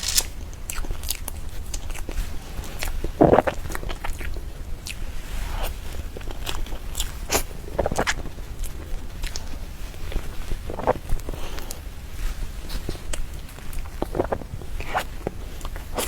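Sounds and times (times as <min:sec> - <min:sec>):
mouth chewing cake: 0:01.8 - 0:11.8, 0:12.7 - 0:16.0.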